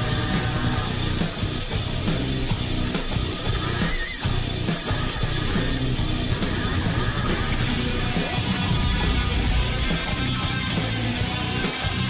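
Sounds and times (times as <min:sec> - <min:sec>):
heavy bass: 0:00.0 - 0:12.0
strummed electric guitar: 0:00.0 - 0:12.0.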